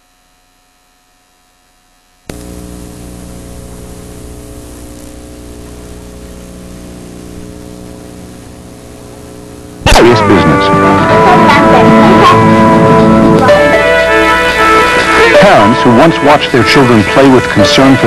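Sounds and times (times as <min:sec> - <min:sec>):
electrical mains hum with hiss: 0:00.0 - 0:18.0.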